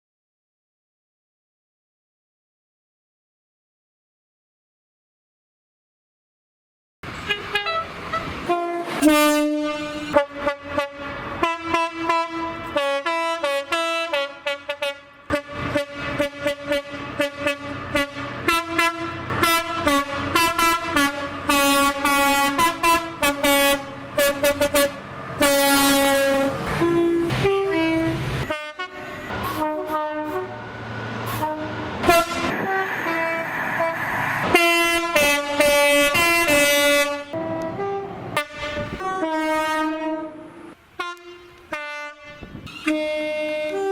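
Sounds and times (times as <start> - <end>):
passing train rushing: 7.0 - 43.9
train horn blasts: 7.2 - 43.9.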